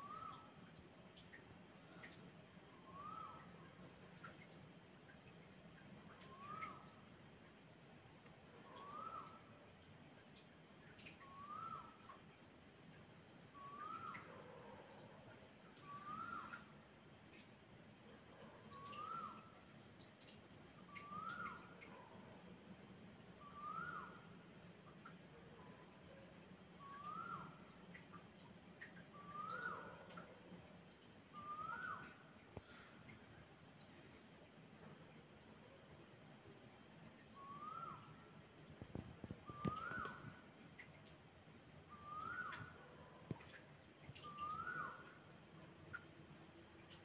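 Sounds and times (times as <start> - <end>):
high-pitched insect trill: 0.0 - 47.0.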